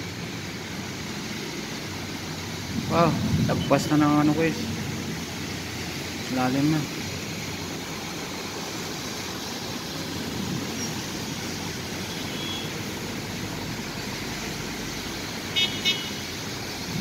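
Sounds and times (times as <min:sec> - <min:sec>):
traffic driving through water: 0:00.0 - 0:17.0.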